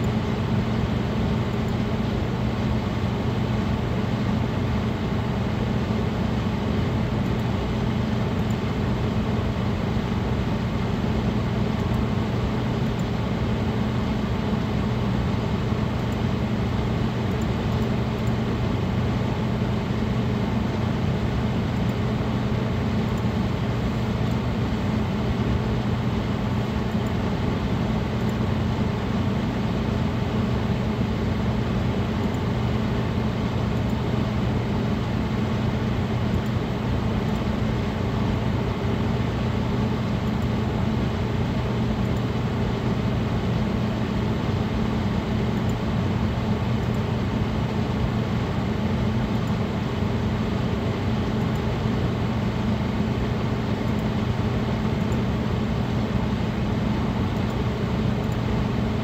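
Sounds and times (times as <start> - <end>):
computer cooling fans: 0.0 - 59.0.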